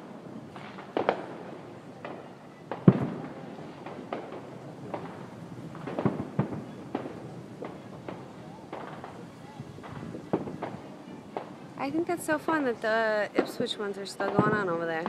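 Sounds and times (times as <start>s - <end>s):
distant fireworks bursting: 0.0s - 15.0s.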